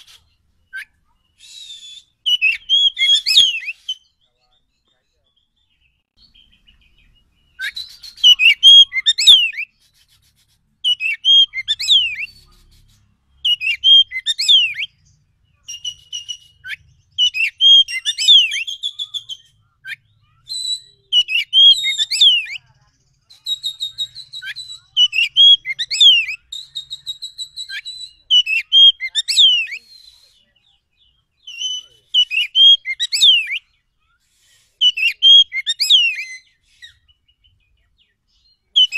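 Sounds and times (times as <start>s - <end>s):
bird singing whistles and chips: 0.0s - 38.9s.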